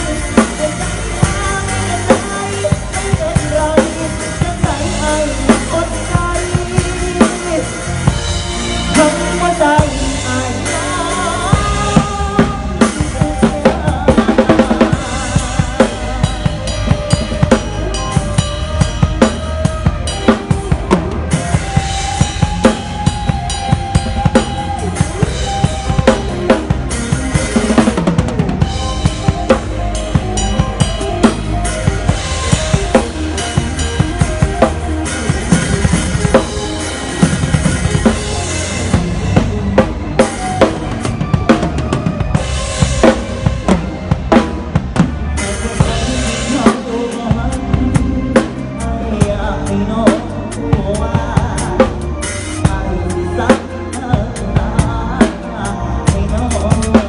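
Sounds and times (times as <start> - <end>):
band playing: 0.0 - 57.0
drum kit beat: 0.0 - 57.0.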